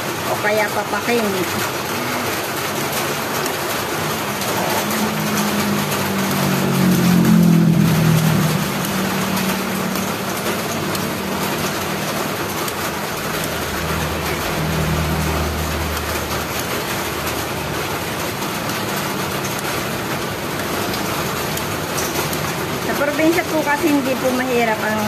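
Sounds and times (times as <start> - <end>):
jam boiling and popping: 0.0 - 24.8.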